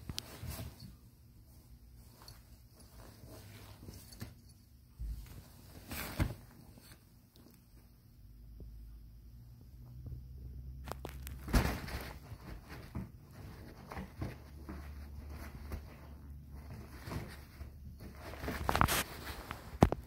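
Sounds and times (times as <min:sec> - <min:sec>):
cat tunnel rustling and crinkling: 0:00.0 - 0:07.9, 0:10.8 - 0:20.0.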